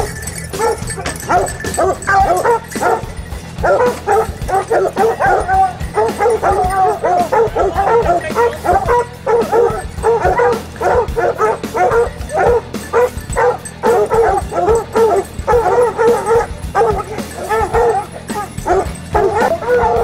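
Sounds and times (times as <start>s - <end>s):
hounds baying and barking: 0.0s - 20.0s.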